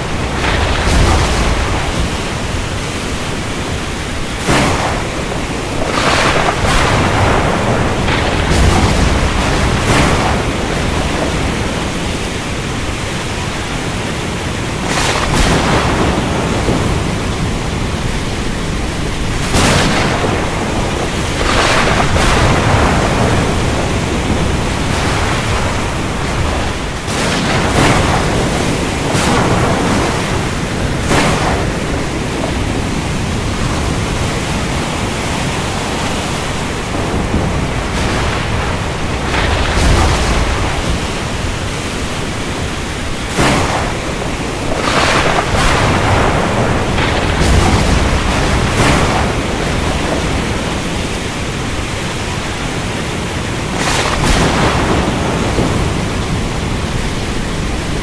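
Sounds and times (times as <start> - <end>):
rain: 0.0 - 58.0
waves: 0.0 - 58.0
wind: 0.0 - 58.0.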